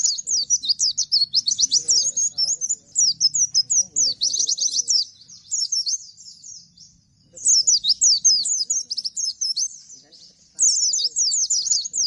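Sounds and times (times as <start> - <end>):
bird singing rapid high notes: 0.0 - 12.0.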